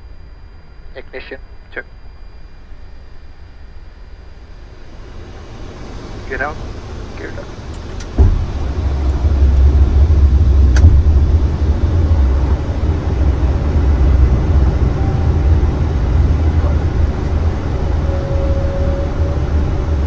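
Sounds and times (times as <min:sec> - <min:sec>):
low rumble of air over landing gear: 0:00.0 - 0:20.0.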